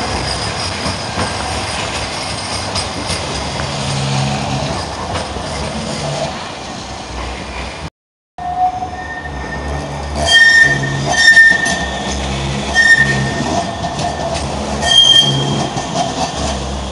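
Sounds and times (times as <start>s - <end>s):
tram wheels rumbling on rails: 0.0s - 16.9s.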